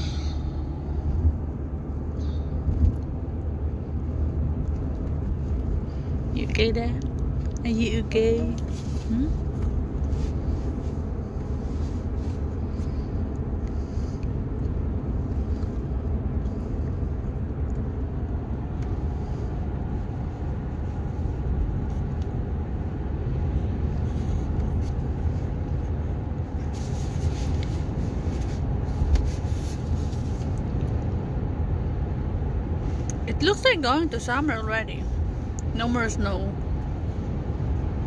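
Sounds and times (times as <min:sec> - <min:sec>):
car cabin engine and road noise: 0:00.0 - 0:38.0.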